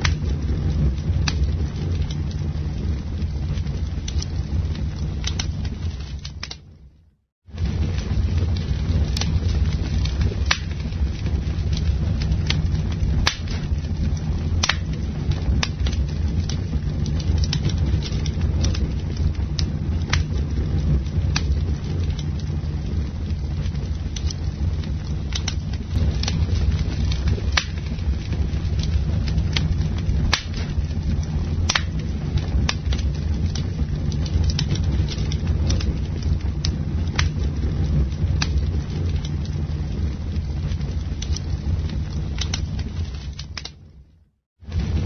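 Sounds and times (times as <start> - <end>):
burning wood crackling and popping: 0.0 - 45.0
low rumble of flames: 0.0 - 45.0.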